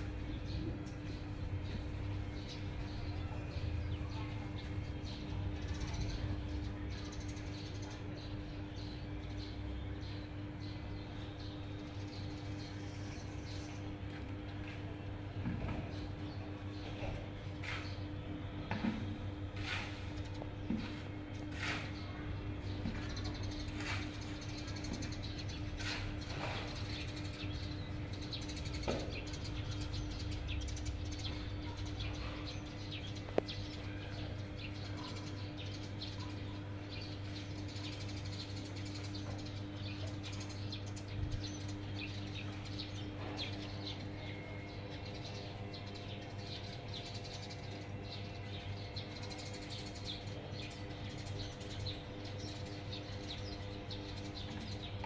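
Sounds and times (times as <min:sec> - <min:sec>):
small birds chirping: 0:00.0 - 0:55.0
steady low hum: 0:00.0 - 0:55.0.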